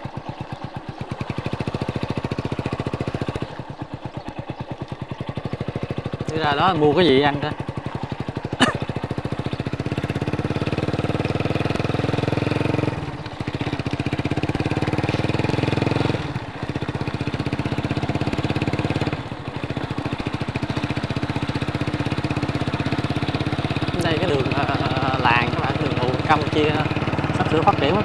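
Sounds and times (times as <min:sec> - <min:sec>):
small motorbike engine running: 0:00.0 - 0:28.0.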